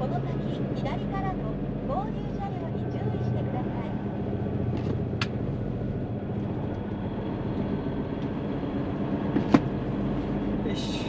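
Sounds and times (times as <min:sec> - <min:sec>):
truck engine drone in cab: 0:00.0 - 0:11.0.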